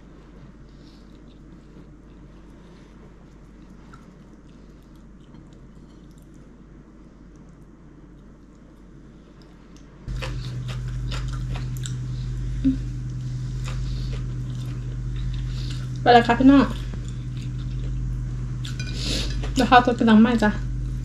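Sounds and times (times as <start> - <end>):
steady low hum: 0.0 - 21.0
person chewing food: 0.2 - 16.0, 16.7 - 19.6.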